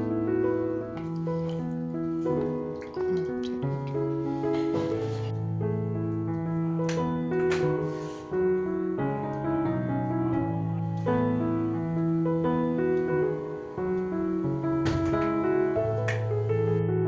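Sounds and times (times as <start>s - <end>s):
piano music with held chords: 0.0s - 17.0s.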